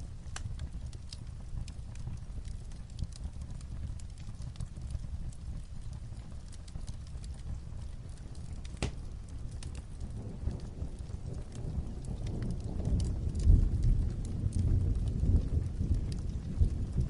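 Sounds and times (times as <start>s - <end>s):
light rain on a roof: 0.0s - 17.0s
wood fire crackling: 0.0s - 17.0s.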